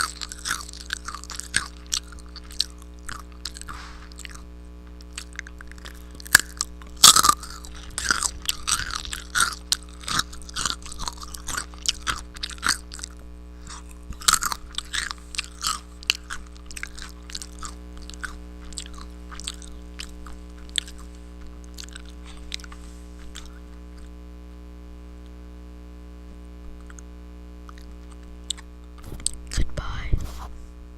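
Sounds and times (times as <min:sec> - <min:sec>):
mouth clicks: 0:00.0 - 0:24.1, 0:26.8 - 0:27.1, 0:27.7 - 0:29.7
chewing crunchy food: 0:00.0 - 0:24.2, 0:26.7 - 0:29.7
low electrical hum: 0:00.0 - 0:30.9.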